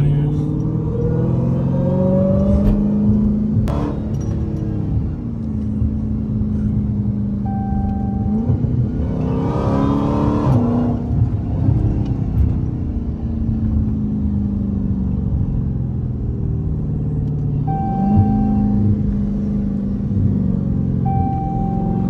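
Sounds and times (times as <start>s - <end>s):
car engine heard from inside: 0.0s - 22.0s.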